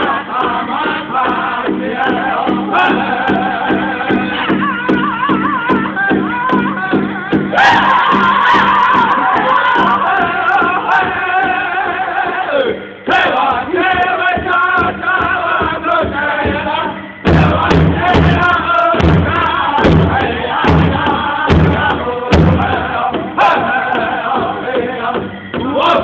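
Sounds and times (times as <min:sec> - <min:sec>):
drum beats: 0:00.0 - 0:26.0
group singing in chorus: 0:00.0 - 0:26.0.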